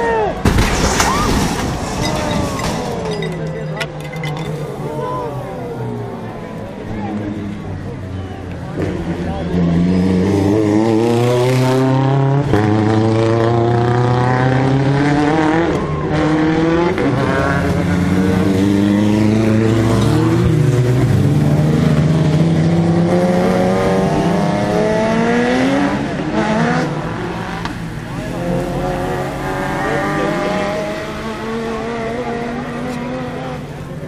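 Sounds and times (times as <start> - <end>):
rally car engines revving: 0.3 - 34.0.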